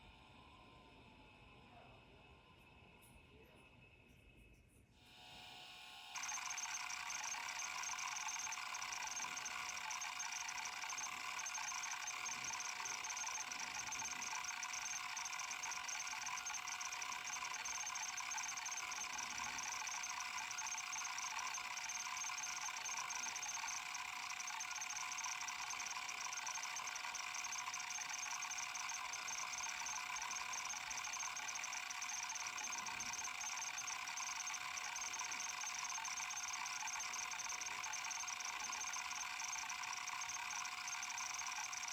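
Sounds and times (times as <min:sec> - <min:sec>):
hard drive whine: 0:05.1 - 0:41.9
hard drive head chatter: 0:06.2 - 0:41.9.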